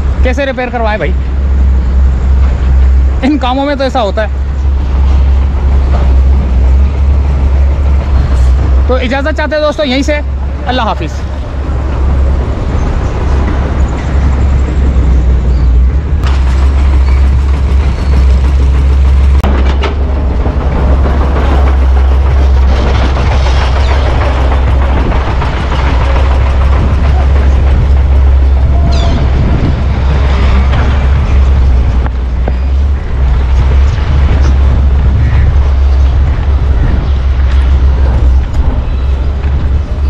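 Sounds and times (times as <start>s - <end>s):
heavy diesel engines rumbling: 0.0s - 40.0s.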